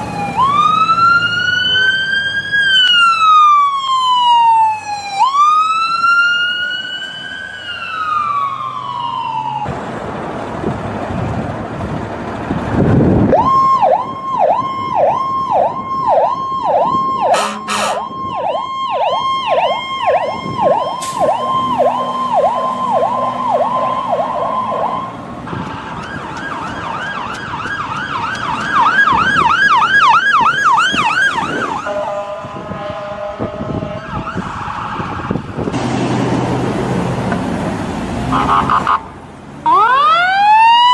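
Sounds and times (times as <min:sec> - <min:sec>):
ambulance siren: 0:00.0 - 0:09.7, 0:13.1 - 0:35.7, 0:38.3 - 0:40.9.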